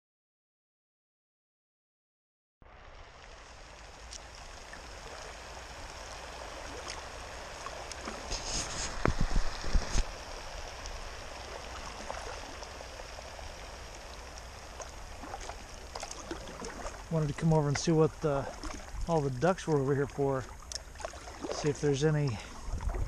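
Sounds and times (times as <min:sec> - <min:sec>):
water trickling and lapping: 0:02.8 - 0:23.0.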